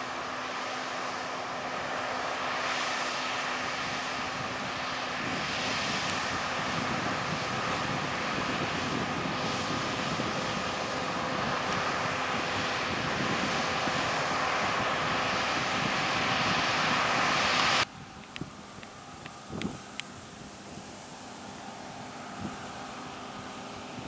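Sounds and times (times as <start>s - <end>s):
faint steady whine: 0.0s - 24.0s.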